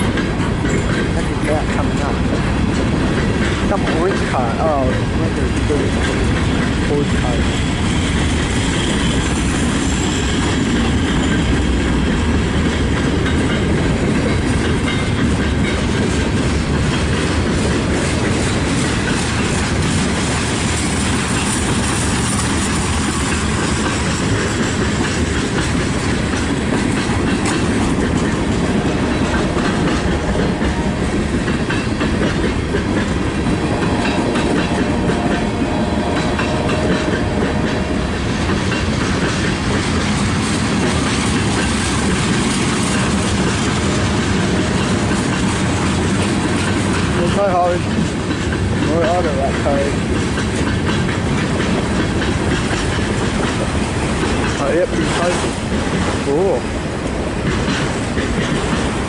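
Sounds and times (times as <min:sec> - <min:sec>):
freight train rumbling past: 0:00.0 - 0:59.0
wheels clicking over rail joints: 0:00.0 - 0:59.0.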